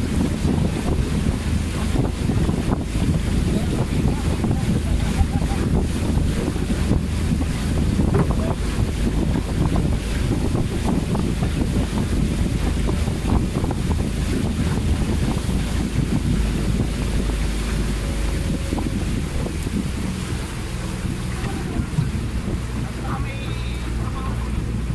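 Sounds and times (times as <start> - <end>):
boat motor: 0.0 - 24.9
water splashing along hull: 0.0 - 24.9
wind buffeting microphone: 0.0 - 24.9.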